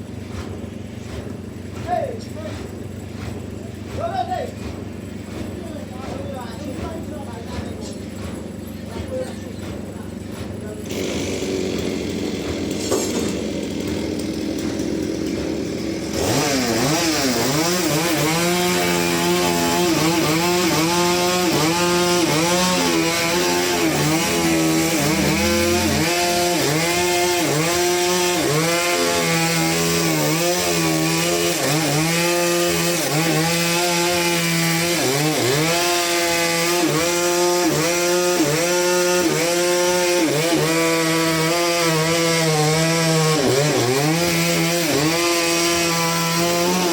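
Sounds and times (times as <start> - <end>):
chainsaw cutting log: 0.0 - 46.9.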